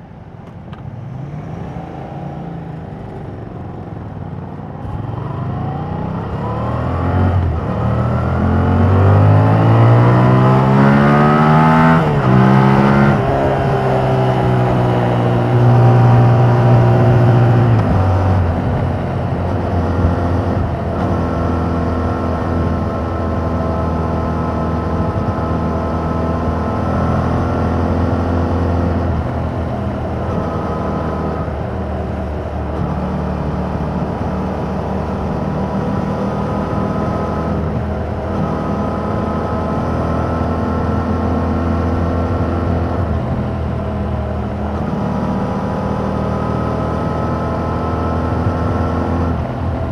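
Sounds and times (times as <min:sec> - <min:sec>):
motorcycle engine while riding: 0:00.0 - 0:49.9.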